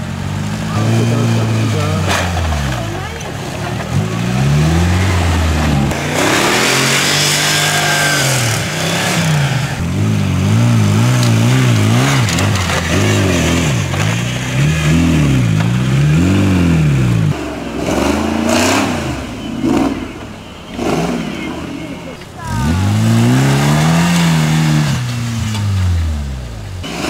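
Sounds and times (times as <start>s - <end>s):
another engine revving: 0.0s - 27.0s
off-road vehicle engine revving: 0.0s - 27.0s.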